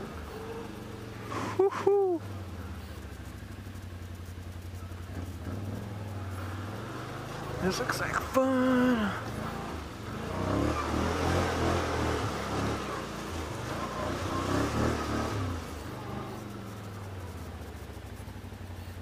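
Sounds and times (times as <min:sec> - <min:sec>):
atv engine revving: 0:00.0 - 0:19.0
wheels through muddy puddles: 0:00.0 - 0:19.0.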